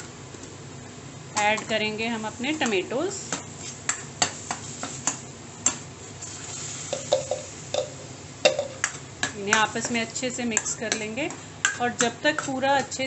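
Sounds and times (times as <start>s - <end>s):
light sizzle: 0.0s - 13.0s.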